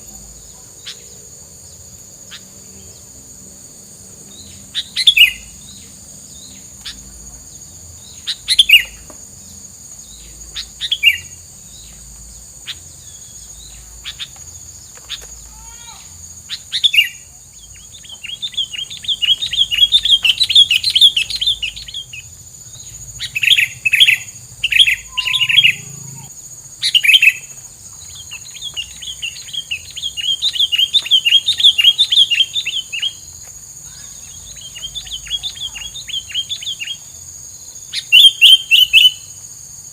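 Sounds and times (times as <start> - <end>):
songbird chirping and trilling: 0.0 - 39.6.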